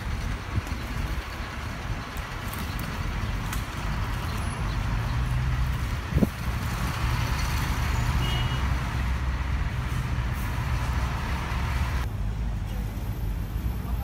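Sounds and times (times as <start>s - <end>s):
heavy vehicle engine rumbling: 0.0s - 14.0s
street traffic: 0.0s - 14.0s.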